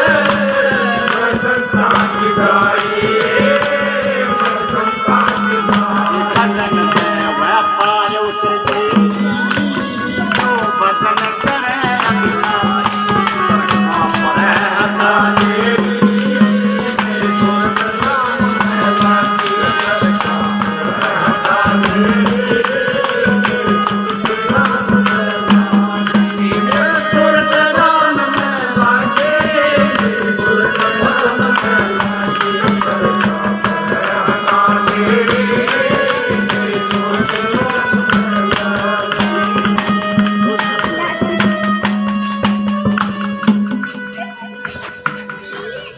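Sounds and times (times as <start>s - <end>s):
devotional folk music: 0.0s - 45.9s
hand percussion and drums: 0.0s - 45.9s.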